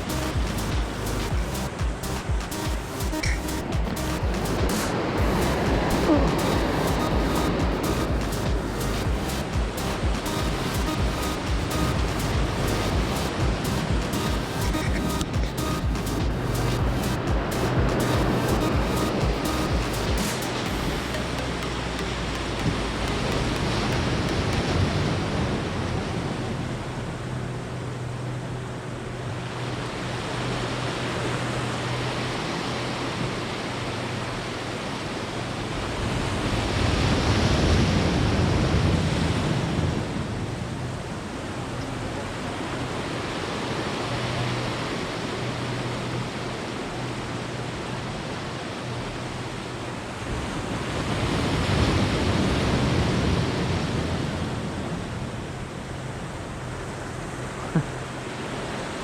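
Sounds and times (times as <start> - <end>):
waves washing in: 0.0 - 59.0.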